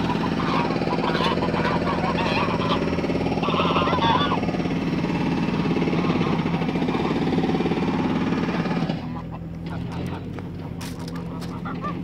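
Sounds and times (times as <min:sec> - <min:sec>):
geese honking: 0:00.0 - 0:12.0
motor throbbing: 0:00.0 - 0:12.0.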